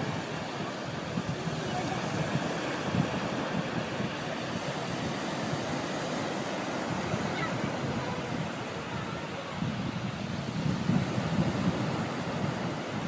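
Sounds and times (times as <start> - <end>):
sea surf washing ashore: 0.0 - 13.0.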